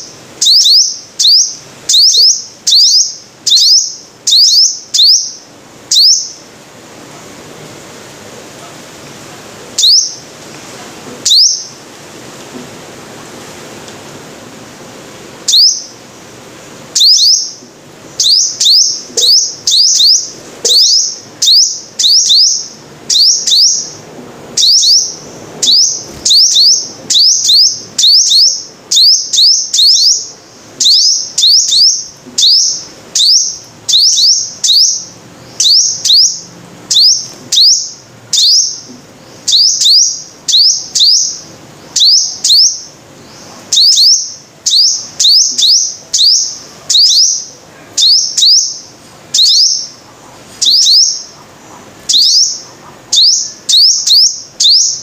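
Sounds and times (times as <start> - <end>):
sunbird chirping: 0.0 - 6.6, 9.7 - 10.4, 11.2 - 11.9, 15.3 - 55.0.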